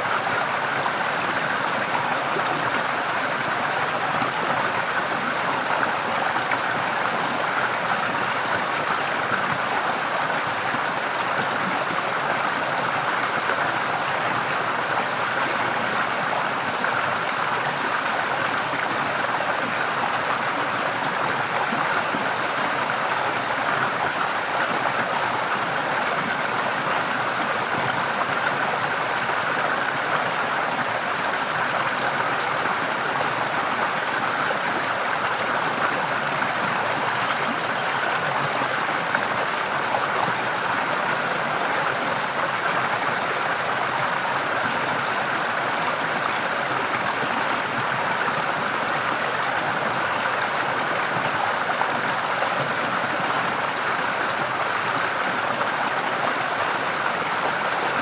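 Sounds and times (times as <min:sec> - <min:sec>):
stream rushing and splashing: 0:00.0 - 0:58.0.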